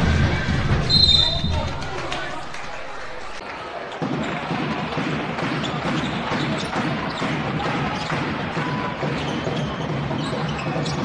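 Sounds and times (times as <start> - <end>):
crowd and hall noise: 0.0 - 11.0.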